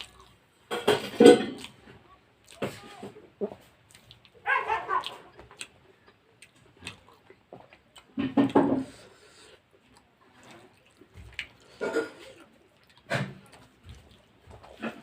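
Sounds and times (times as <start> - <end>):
wet chewing and smacking: 0.0 - 15.0.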